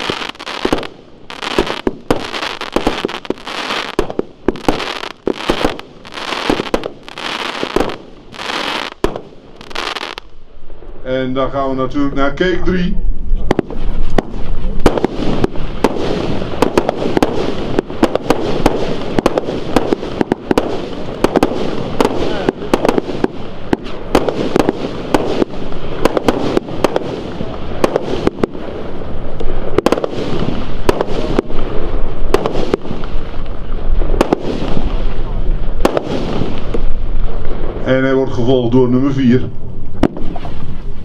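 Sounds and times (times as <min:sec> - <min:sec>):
firework cake barrage: 0:00.0 - 0:10.4, 0:13.3 - 0:39.4.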